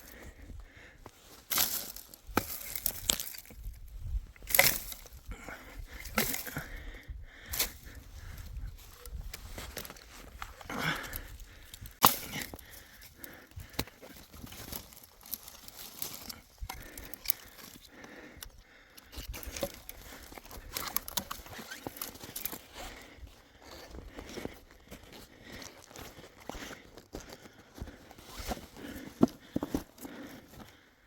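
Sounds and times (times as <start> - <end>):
rustling and crunching: 1.1 - 18.2, 19.0 - 30.8.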